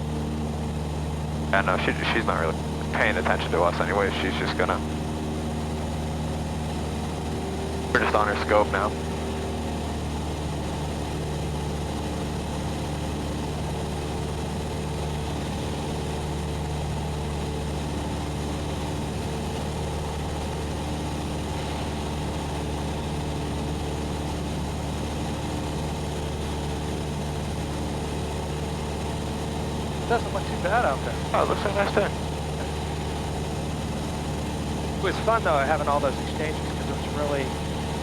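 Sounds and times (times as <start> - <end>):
light aircraft engine droning: 0.0 - 38.0.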